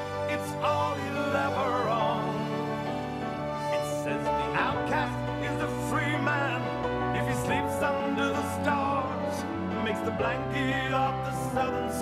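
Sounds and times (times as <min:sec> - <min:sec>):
instrumental accompaniment: 0:00.0 - 0:12.0
person singing a ballad: 0:00.0 - 0:12.0.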